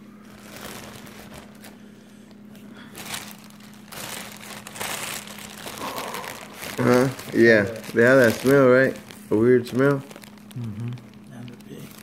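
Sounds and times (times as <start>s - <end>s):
steady low hum: 0.0s - 12.0s
crawfish sack rustling: 0.2s - 1.8s, 2.9s - 12.0s.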